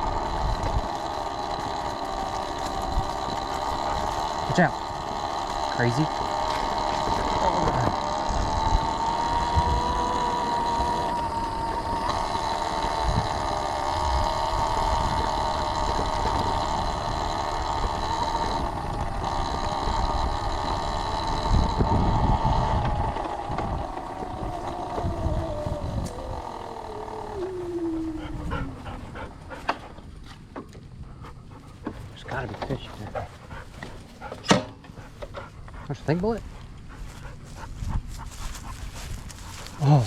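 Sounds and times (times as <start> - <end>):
electric motor whining: 0.0 - 31.0, 31.8 - 40.0.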